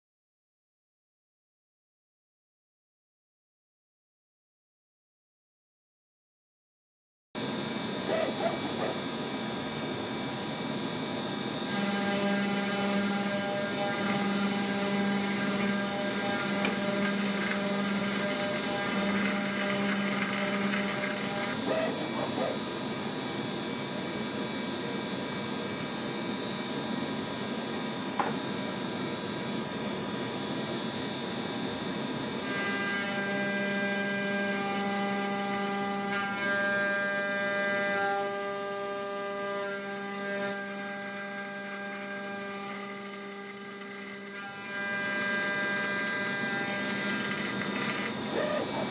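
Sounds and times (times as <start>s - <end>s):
milling machine whine: 7.4s - 48.9s.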